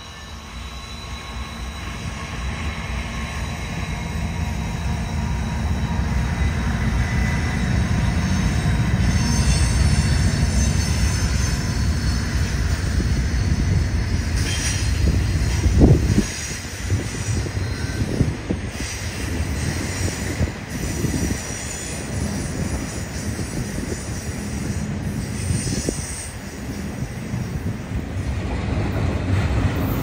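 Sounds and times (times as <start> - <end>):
wheel squeal: 0.0 - 27.2
freight train rumbling past: 0.0 - 30.0.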